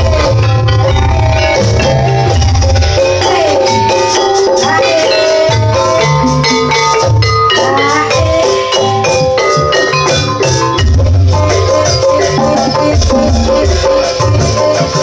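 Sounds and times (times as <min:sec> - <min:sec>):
deep drum beats: 0:00.0 - 0:15.0
gamelan music: 0:00.0 - 0:15.0.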